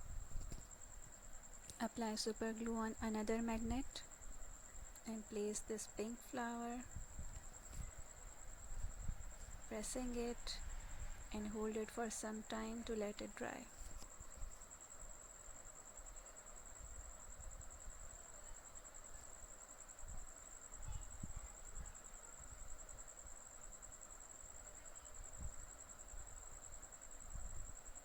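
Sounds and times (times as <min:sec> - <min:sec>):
cricket trilling: 0:00.0 - 0:28.0.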